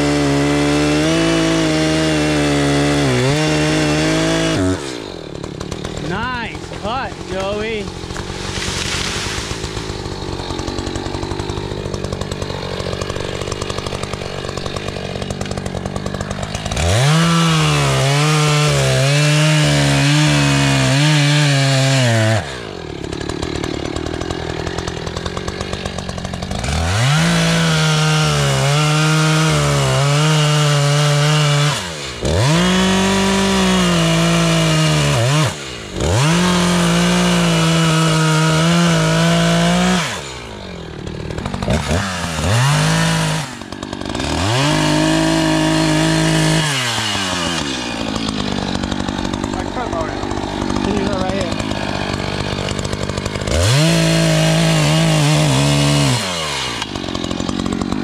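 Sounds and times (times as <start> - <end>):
chainsaw cutting log: 0.0 - 58.0
chainsaw idling and revving: 0.0 - 58.0.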